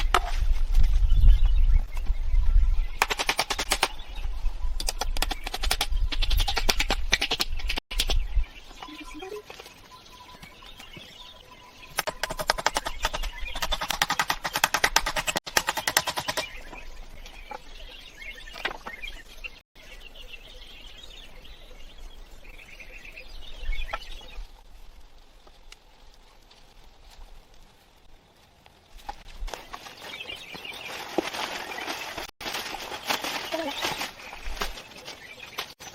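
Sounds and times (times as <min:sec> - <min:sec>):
birds chirping: 0:00.0 - 0:26.9, 0:28.0 - 0:35.9.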